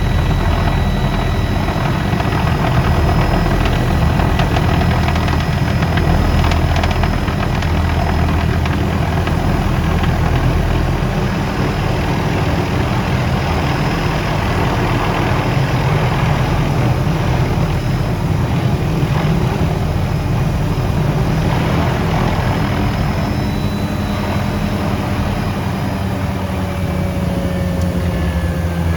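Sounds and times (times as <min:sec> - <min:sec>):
helicopter engine and rotor drone: 0:00.0 - 0:28.9.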